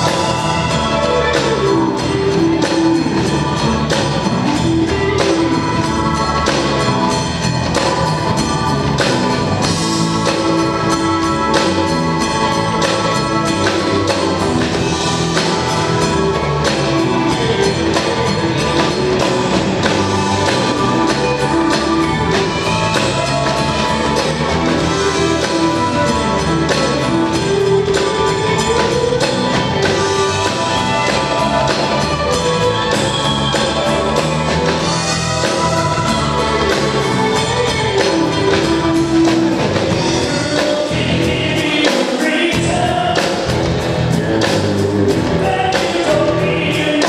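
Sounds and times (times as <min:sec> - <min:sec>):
live band playing: 0:00.0 - 0:47.0.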